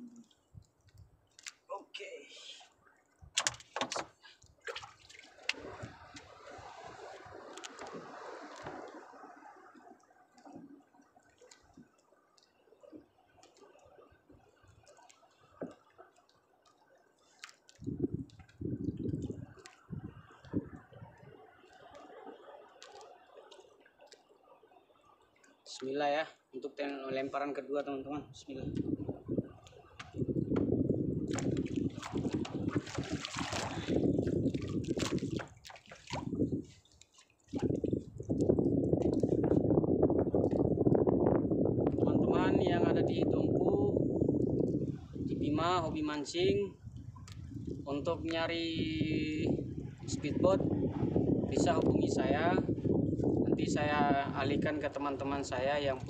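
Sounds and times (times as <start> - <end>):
water sloshing and trickling: 0.0 - 56.0.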